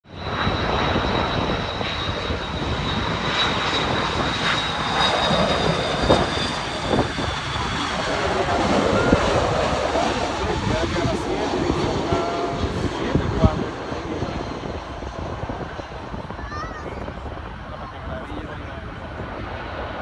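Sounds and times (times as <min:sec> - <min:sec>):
high jet engine whine: 0:00.0 - 0:20.0
jet airliner landing: 0:00.1 - 0:20.0.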